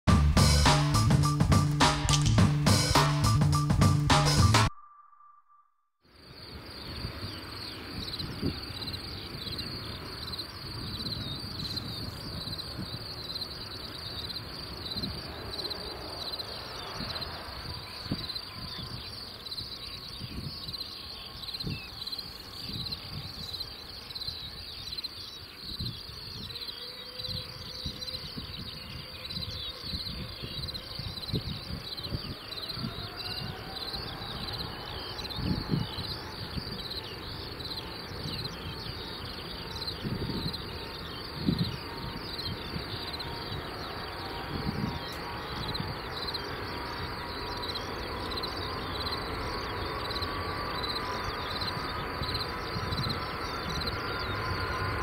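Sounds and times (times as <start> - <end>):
insects chirping: 4.8 - 55.0
distant jet engines whining: 6.2 - 24.6, 26.1 - 55.0
wind rumbling on microphone: 6.3 - 55.0.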